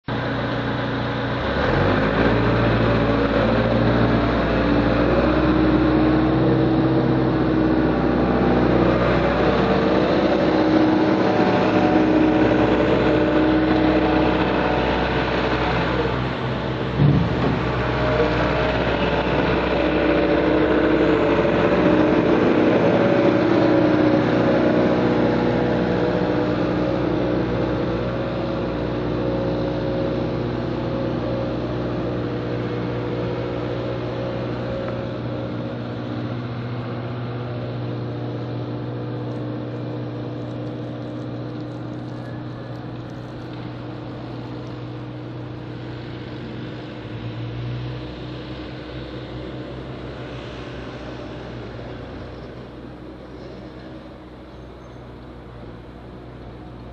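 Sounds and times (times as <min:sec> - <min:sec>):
work vehicle engine running: 0:00.0 - 0:56.9.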